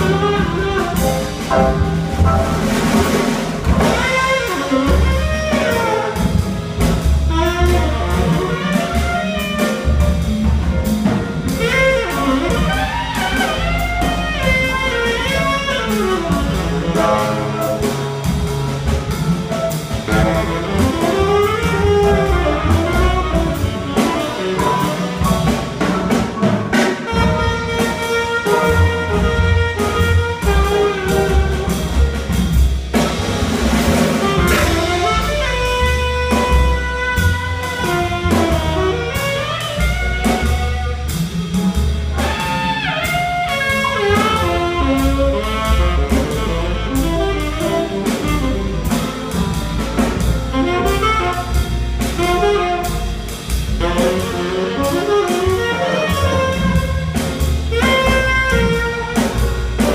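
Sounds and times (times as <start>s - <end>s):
drum kit with cymbal strokes: 0.0s - 59.9s
tenor saxophone solo: 0.0s - 59.9s
upright bass: 0.0s - 59.9s.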